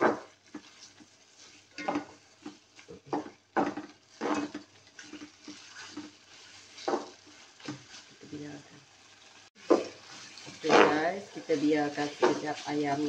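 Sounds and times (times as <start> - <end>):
wooden spatula scraping a pot: 0.0 - 13.0.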